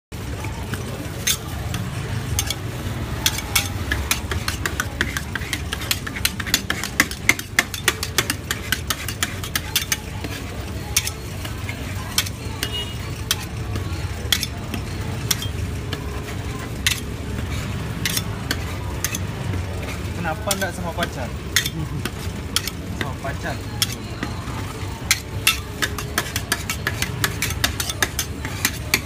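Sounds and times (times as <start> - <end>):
metal spatulas tapping on steel: 0.4 - 29.0.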